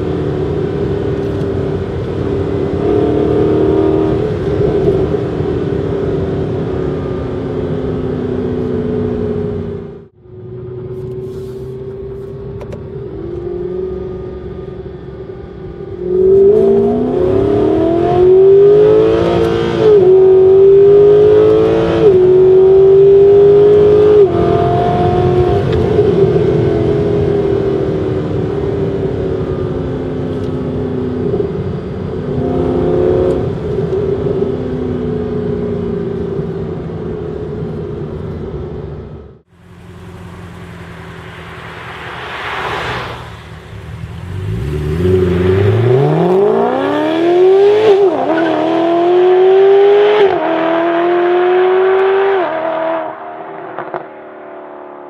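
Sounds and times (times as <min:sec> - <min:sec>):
car engine accelerating and upshifting: 0:00.0 - 0:55.0.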